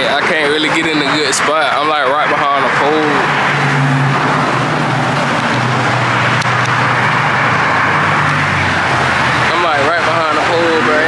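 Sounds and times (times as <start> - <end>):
car engine humming: 0.0 - 11.0
loud traffic: 0.0 - 11.0.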